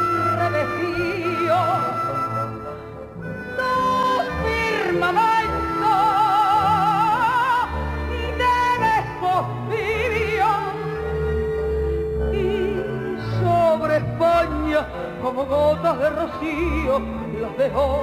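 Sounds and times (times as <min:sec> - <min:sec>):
instrumental accompaniment: 0:00.0 - 0:18.0
operatic singing: 0:03.4 - 0:18.0.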